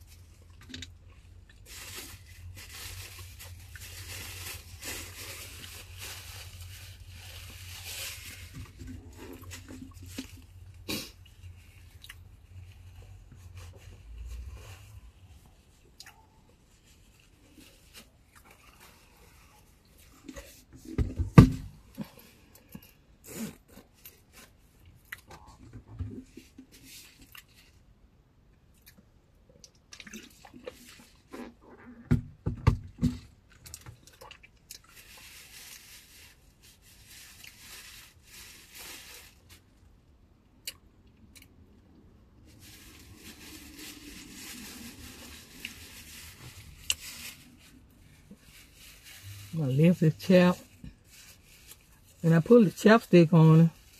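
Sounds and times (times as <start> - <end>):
rustling: 0.0 - 27.8, 33.7 - 39.8, 42.3 - 53.9.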